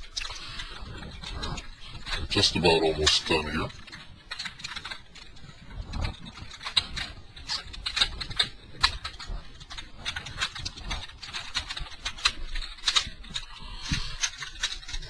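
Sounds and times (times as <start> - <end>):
toy parts clicking and rattling: 0.0 - 15.0.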